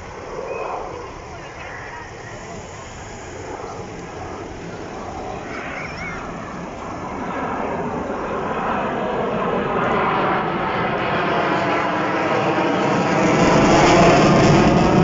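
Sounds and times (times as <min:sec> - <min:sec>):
fighter jet flying overhead: 0:00.0 - 0:15.0.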